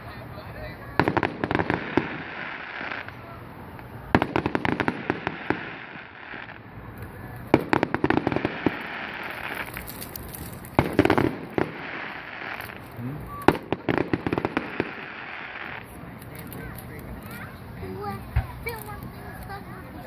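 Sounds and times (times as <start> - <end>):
fireworks crackling pops: 0.6 - 20.0.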